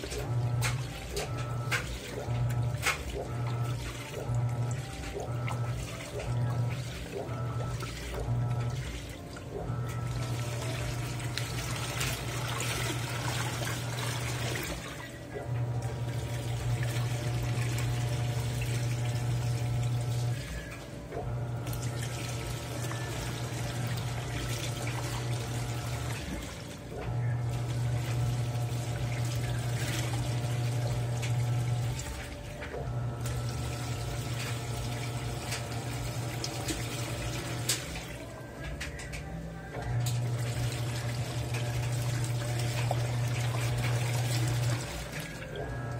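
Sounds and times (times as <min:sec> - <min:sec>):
water sloshing: 0:00.0 - 0:39.2, 0:40.0 - 0:45.9
washing machine motor hum: 0:00.0 - 0:45.9.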